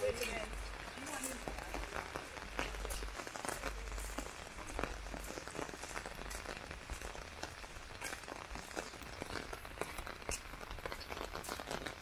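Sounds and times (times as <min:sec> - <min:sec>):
heavy rain falling: 0:00.0 - 0:12.0
raindrops spattering close by: 0:00.0 - 0:12.0.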